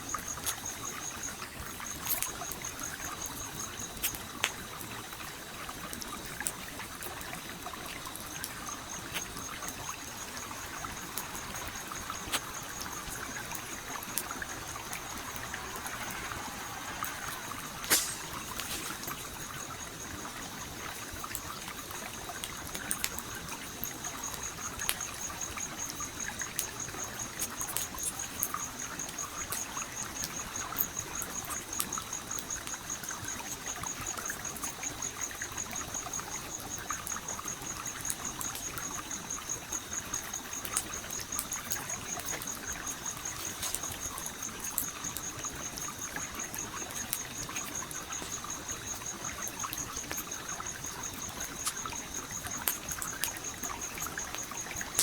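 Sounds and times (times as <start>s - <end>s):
flowing stream: 0.0s - 55.0s
campfire crackling and popping: 0.1s - 55.0s.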